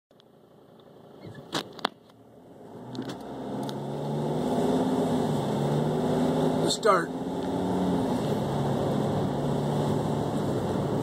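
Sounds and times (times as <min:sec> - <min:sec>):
car engine accelerating: 0:00.4 - 0:11.0.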